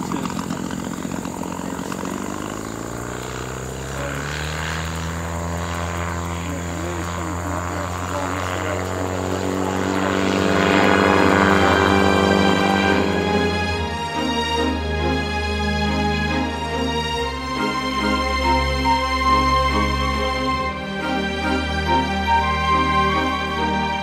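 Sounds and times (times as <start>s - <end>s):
gyrocopter engine and propeller: 0.0s - 24.0s.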